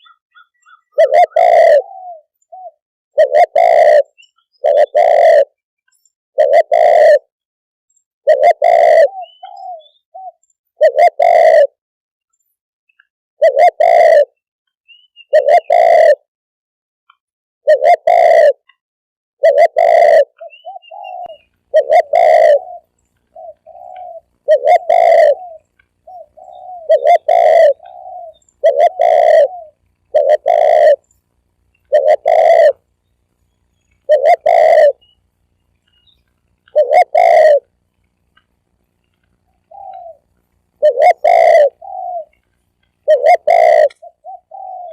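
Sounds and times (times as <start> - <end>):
dove cooing: 0.0 - 5.6, 6.4 - 7.3, 8.3 - 11.8, 13.4 - 14.3, 15.3 - 16.3, 17.7 - 18.7, 19.4 - 44.9.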